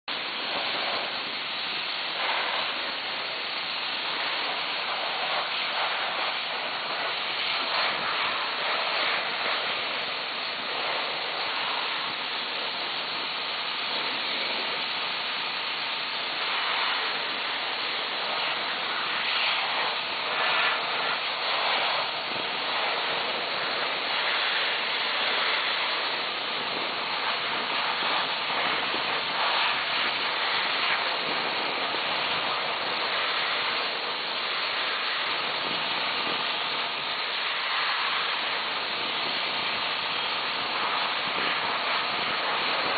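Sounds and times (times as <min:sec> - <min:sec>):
compressed air hissing from hose: 0:00.1 - 0:42.9.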